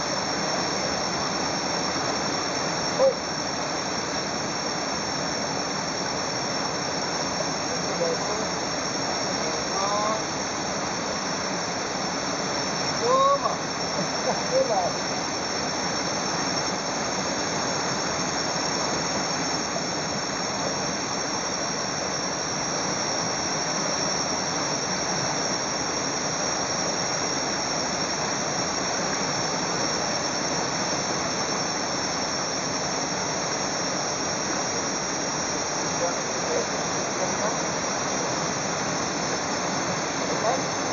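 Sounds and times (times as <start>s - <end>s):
high-pitched whine: 0.0s - 40.9s.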